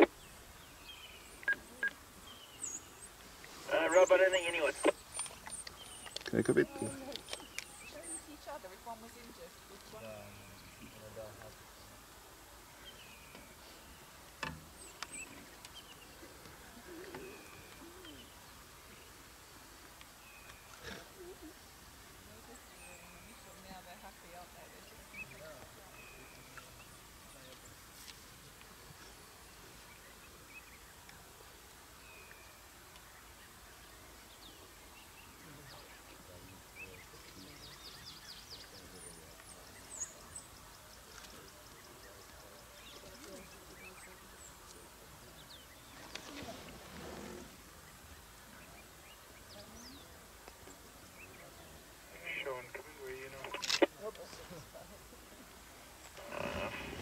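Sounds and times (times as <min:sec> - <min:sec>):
faint low murmur: 0:00.0 - 0:57.0
small birds chirping faintly: 0:00.0 - 0:57.0.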